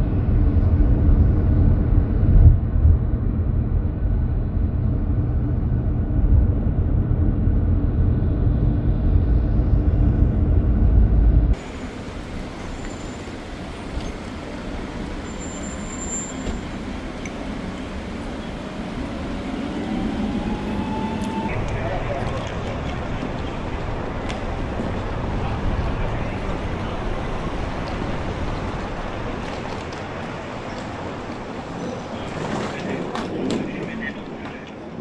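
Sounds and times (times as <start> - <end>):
vehicle rumble from inside: 0.0 - 34.1.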